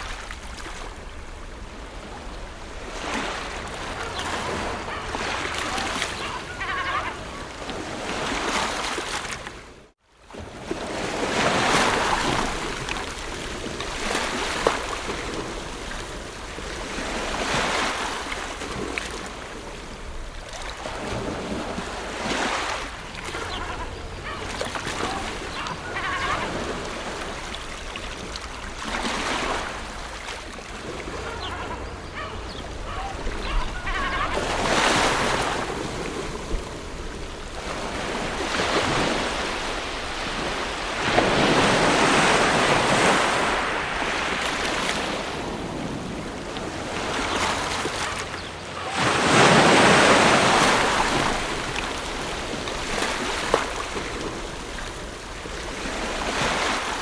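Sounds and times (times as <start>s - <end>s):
ocean waves washing onto shore: 0.0s - 57.0s.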